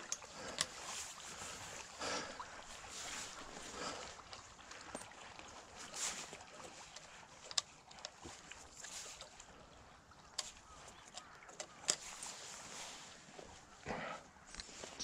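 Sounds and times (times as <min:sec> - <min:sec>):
dog swimming in water: 0:00.0 - 0:15.0.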